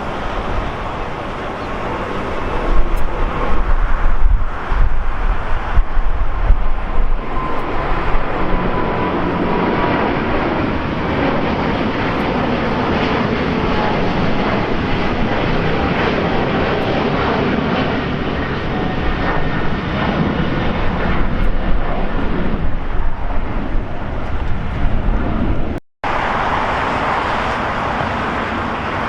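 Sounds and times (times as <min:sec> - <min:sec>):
jet engine rushing: 0:00.0 - 0:29.0.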